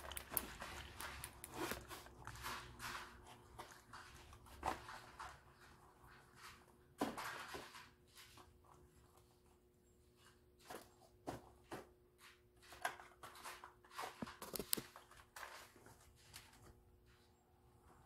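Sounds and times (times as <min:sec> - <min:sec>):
goods being handled on shelves: 0:00.8 - 0:18.0.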